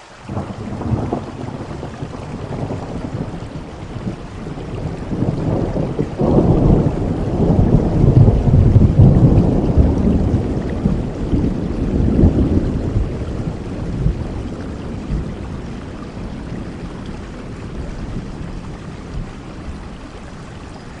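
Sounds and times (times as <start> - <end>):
rain falling: 0.0 - 21.0
low rumble of thunder: 0.3 - 21.0.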